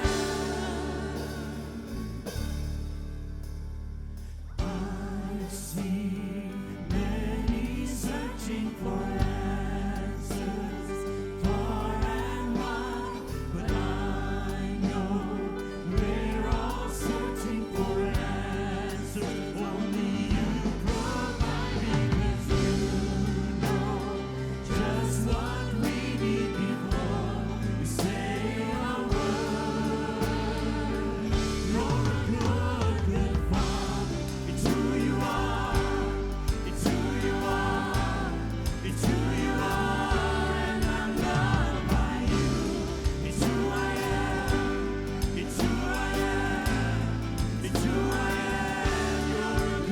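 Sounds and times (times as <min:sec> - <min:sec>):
voices singing: 0:00.0 - 0:02.7, 0:04.6 - 0:49.9
band with bass and drums: 0:00.0 - 0:49.9.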